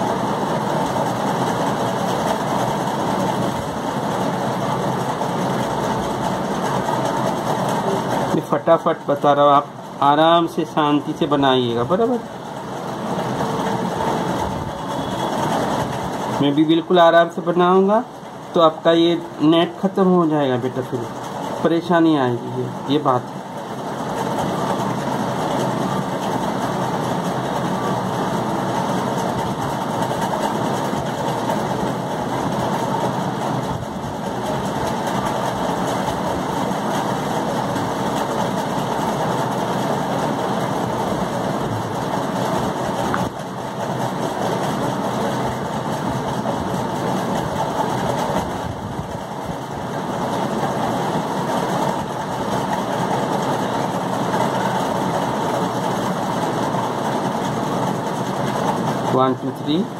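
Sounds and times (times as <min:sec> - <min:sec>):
steady mechanical drone: 0:00.0 - 0:59.9.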